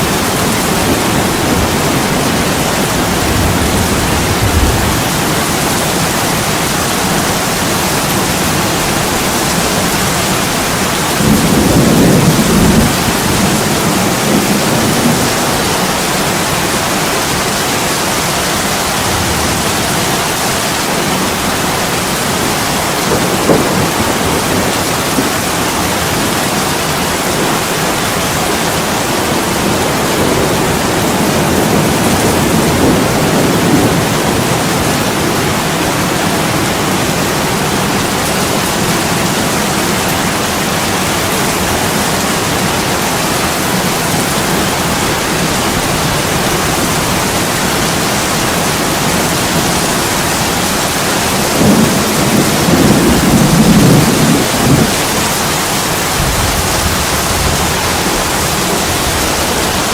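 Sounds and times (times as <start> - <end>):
heavy rain on a window: 0.0 - 59.9.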